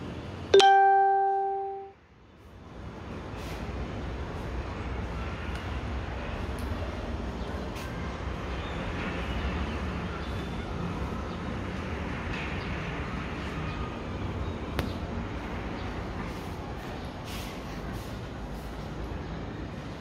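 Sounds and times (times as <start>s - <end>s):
wind: 0.0s - 20.0s
distant traffic rumble: 2.5s - 20.0s.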